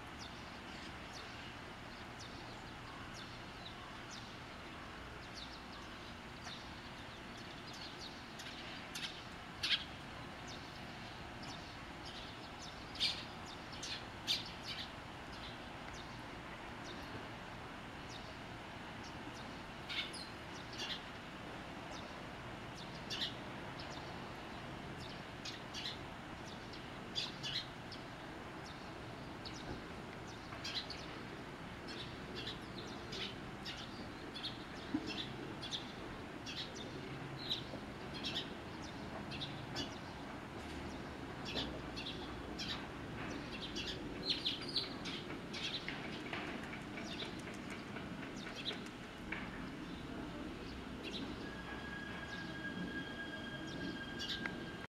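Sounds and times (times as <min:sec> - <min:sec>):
small birds chirping: 0:00.1 - 0:52.4.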